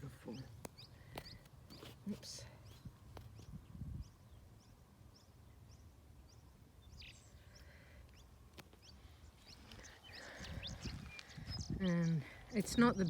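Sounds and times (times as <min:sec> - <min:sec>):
wild birds chirping: 0:00.0 - 0:13.0.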